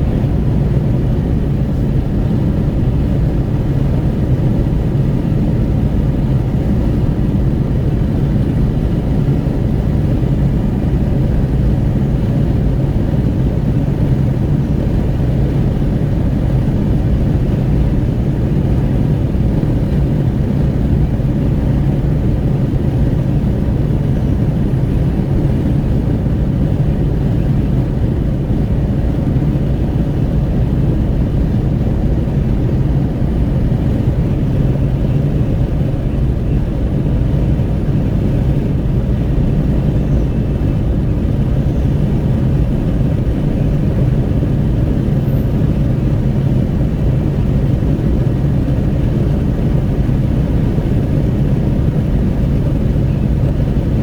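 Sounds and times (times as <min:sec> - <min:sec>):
wind rushing at open window: 0:00.0 - 0:54.0.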